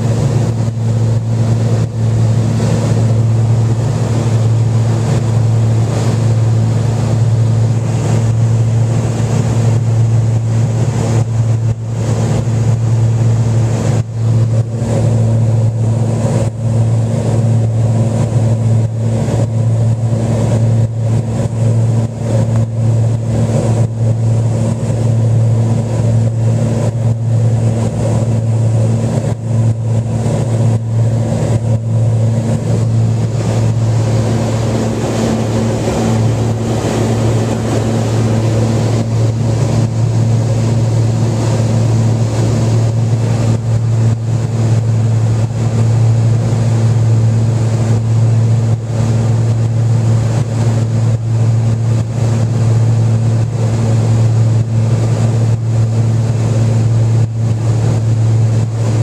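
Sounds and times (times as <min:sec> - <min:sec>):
propeller plane engines droning: 0:00.0 - 0:59.0.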